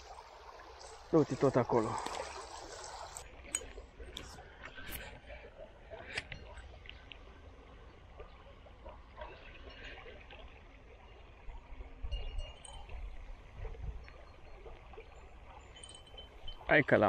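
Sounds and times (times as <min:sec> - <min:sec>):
small river flowing: 0:00.0 - 0:17.0.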